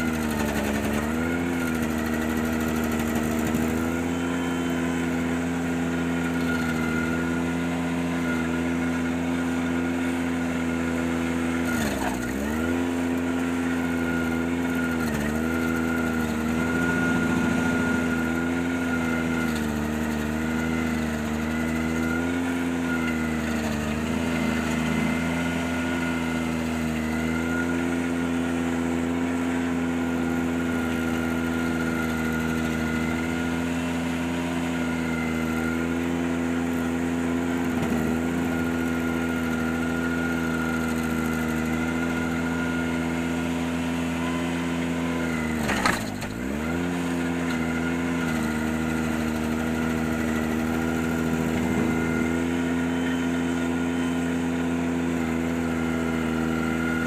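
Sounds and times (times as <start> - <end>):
tractor engine running at high speed: 0.0 - 57.0.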